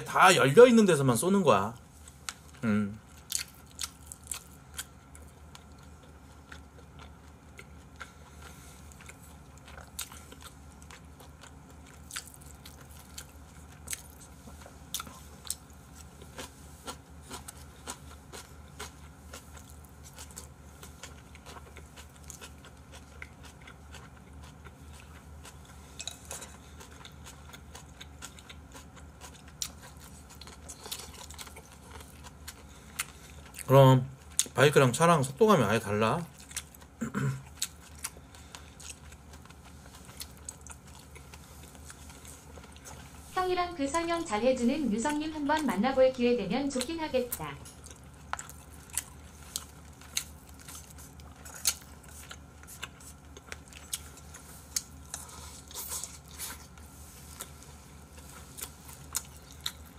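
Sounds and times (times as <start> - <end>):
people chewing food: 0.0 - 59.9
steady low hum: 0.0 - 59.9.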